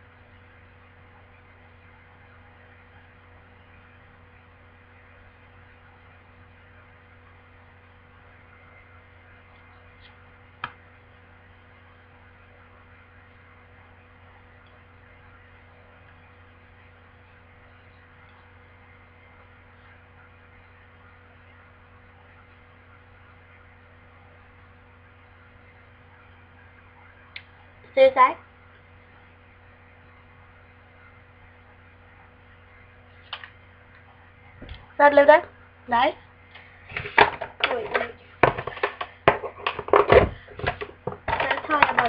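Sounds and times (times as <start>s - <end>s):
electrical hum over hiss: 0.0s - 42.0s.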